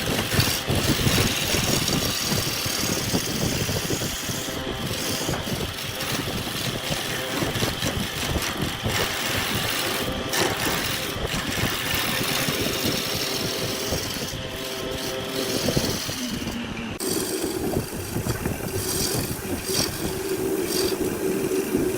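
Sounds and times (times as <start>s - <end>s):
turning tool scraping wood: 0.0s - 21.9s
wood lathe running: 0.0s - 21.9s.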